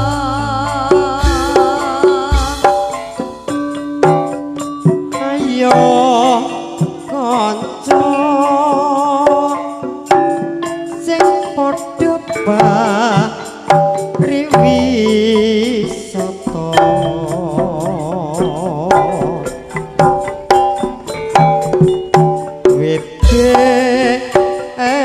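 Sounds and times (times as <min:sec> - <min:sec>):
hand drum strokes: 0:00.0 - 0:25.0
wavering vibrato melody: 0:00.0 - 0:25.0
sustained melodic tones: 0:01.4 - 0:25.0.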